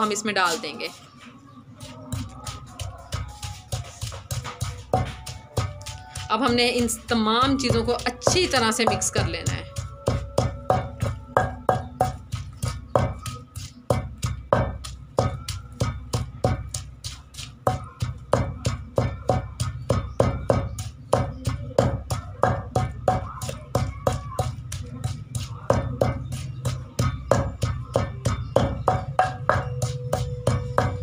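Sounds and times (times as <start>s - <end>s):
wooden pestle pounding in bowl: 1.8s - 31.0s.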